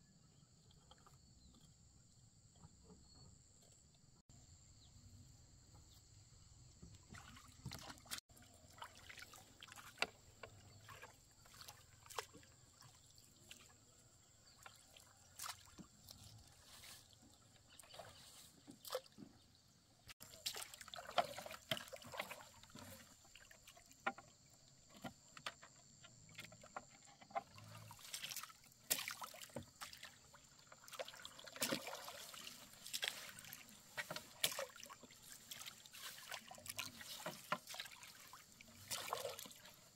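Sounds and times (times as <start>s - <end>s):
water splashes and drips: 6.8s - 39.9s.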